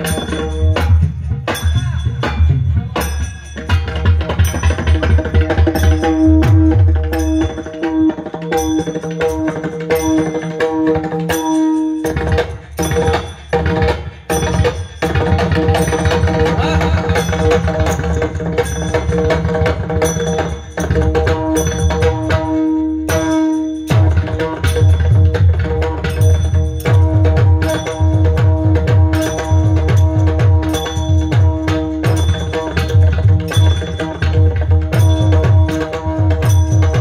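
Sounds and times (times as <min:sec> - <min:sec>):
steady drum rhythm: 0:00.0 - 0:37.0.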